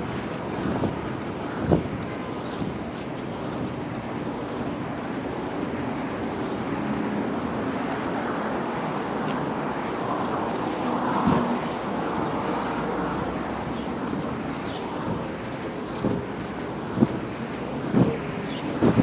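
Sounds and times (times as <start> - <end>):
steady outdoor background noise: 0.0 - 19.0.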